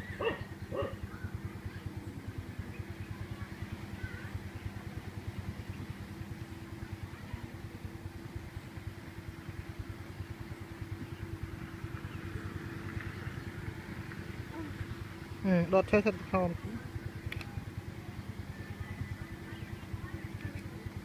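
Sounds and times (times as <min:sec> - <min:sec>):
small engine humming: 0:00.0 - 0:21.0.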